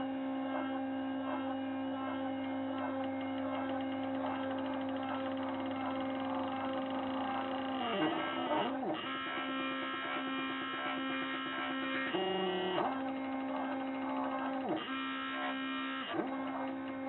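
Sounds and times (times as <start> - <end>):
cnc router motor whine: 0.0 - 17.0
stepper motors changing pitch: 0.0 - 17.0.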